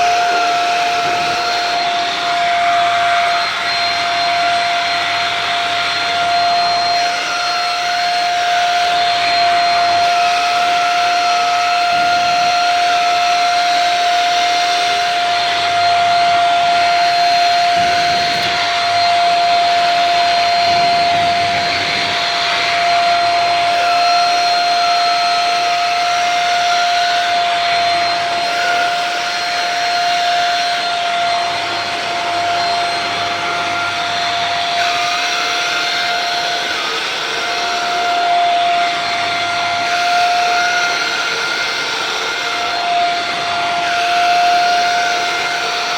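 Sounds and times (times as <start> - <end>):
vacuum cleaner whining: 0.0 - 45.9.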